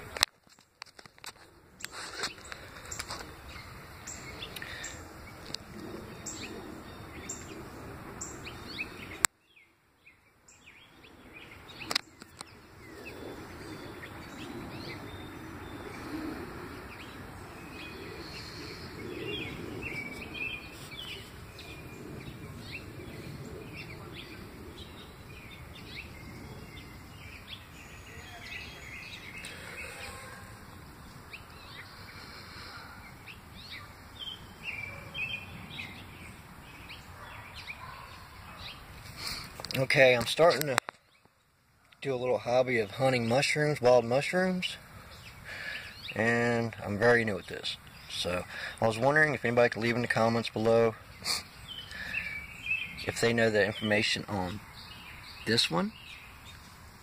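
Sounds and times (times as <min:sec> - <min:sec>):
small birds chirping: 0:00.0 - 0:57.0
steady background hiss: 0:01.2 - 0:57.0.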